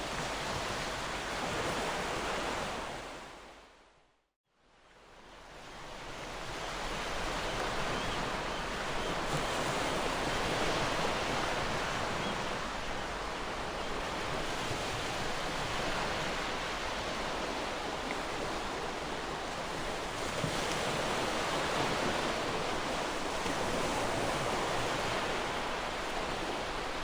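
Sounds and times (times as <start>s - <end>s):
ocean waves washing ashore: 5.0s - 27.0s.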